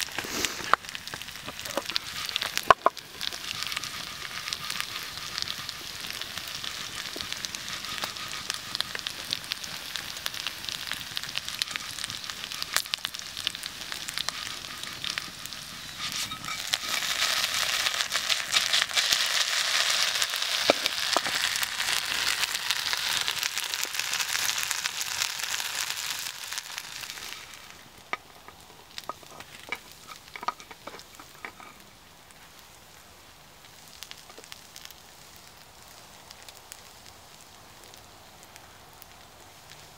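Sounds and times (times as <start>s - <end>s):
campfire popping and crackling: 0.0s - 39.9s
hash browns sizzling in grease: 0.0s - 39.9s.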